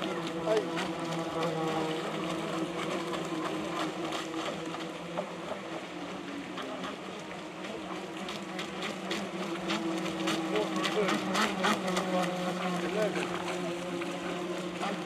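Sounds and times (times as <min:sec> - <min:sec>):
model boat motors whining: 0:00.0 - 0:15.0.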